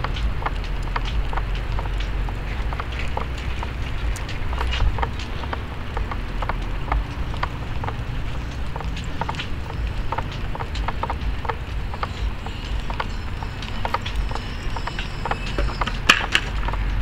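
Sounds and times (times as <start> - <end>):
footsteps clicking and tapping: 0.0 - 17.0
low rumble: 0.0 - 17.0.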